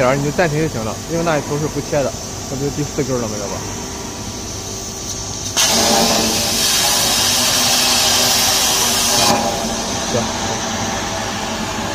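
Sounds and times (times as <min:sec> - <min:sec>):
plasma torch hissing: 0:00.0 - 0:11.9.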